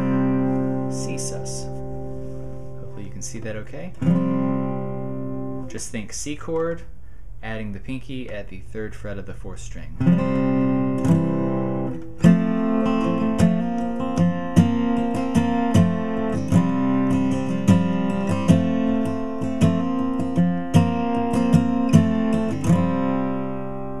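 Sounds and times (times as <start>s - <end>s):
acoustic guitar strumming: 0.0s - 6.8s, 9.5s - 24.0s.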